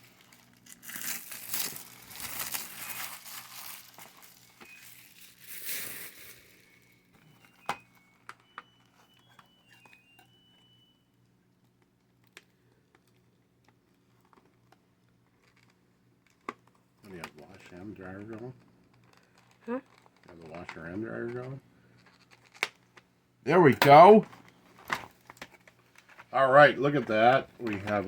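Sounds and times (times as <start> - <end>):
plastic shrink wrap crinkling: 0.0 - 10.9, 12.3 - 23.1, 24.3 - 28.0.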